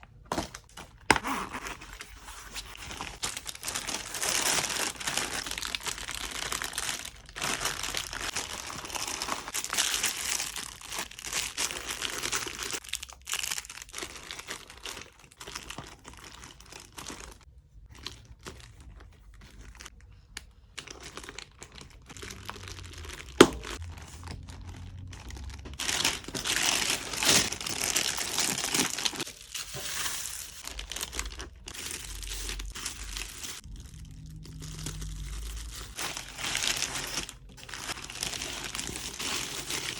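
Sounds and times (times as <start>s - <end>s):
packaging crinkling and rustling: 0.0s - 20.0s, 20.7s - 39.9s.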